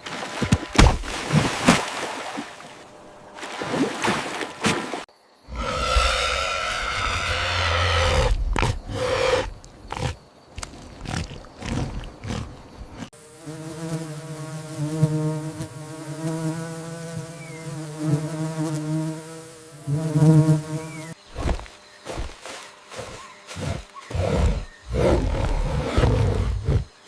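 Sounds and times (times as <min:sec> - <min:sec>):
flying insect buzzing: 0:01.1 - 0:10.2, 0:11.0 - 0:27.0.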